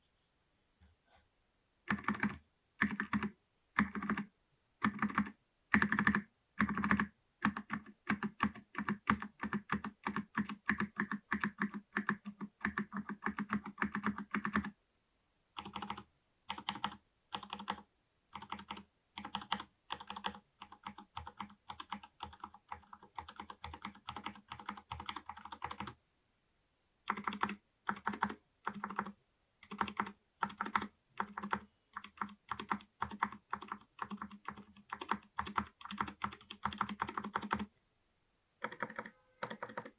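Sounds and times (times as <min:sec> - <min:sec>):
typing on mechanical keyboard: 0:01.9 - 0:14.8, 0:15.6 - 0:26.0, 0:27.1 - 0:37.7, 0:38.6 - 0:39.9.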